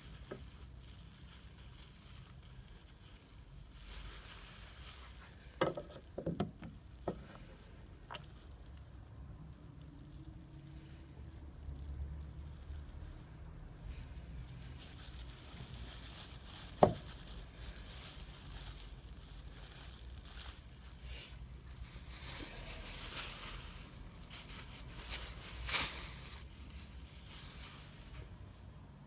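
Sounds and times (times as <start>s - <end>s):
rustling packaging: 0.0s - 28.4s.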